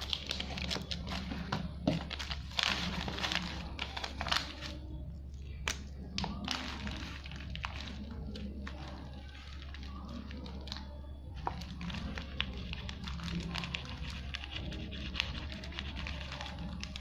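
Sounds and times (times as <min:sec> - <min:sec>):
crinkly packaging rustling: 0:00.0 - 0:17.0.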